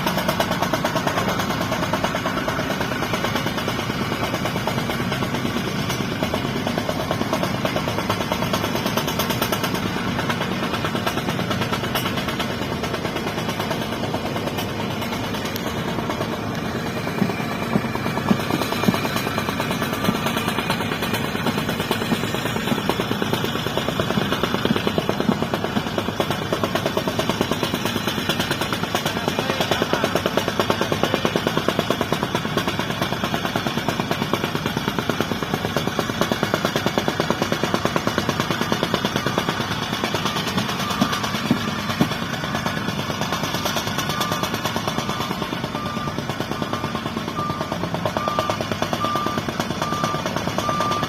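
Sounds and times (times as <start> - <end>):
diesel engine rapid clatter: 0.0 - 51.0.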